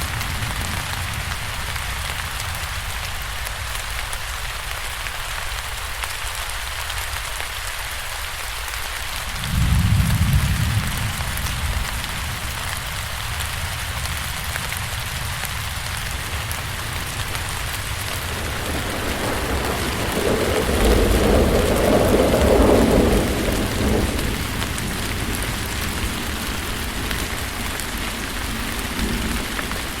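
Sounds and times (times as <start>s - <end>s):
low rumble of thunder: 0.0s - 4.2s, 9.2s - 30.0s
steady rain falling: 0.0s - 30.0s.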